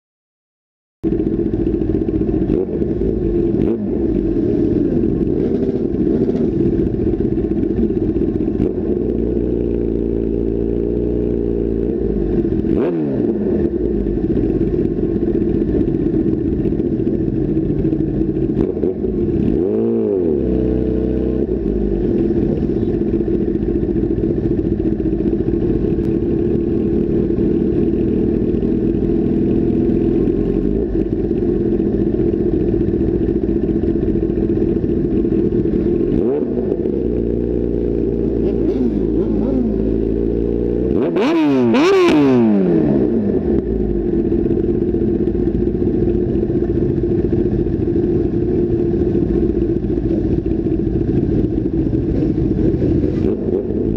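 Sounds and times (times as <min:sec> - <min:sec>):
motorcycle engine revving: 0:01.0 - 0:53.9.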